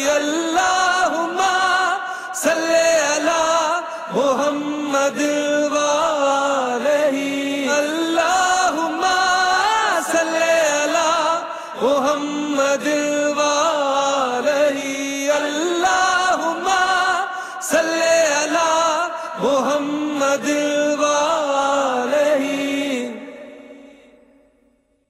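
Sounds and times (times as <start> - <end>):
person singing devotional melody: 0.0 - 24.7.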